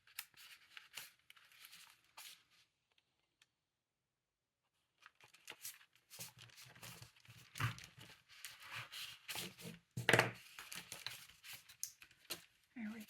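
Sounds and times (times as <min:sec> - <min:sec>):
paper rustling and crinkling: 0:00.0 - 0:03.0, 0:05.0 - 0:13.0.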